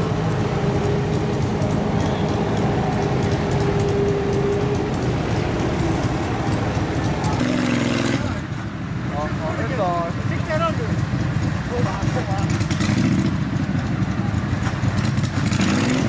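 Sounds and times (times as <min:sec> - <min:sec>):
vehicle engines running low: 0:00.0 - 0:16.0.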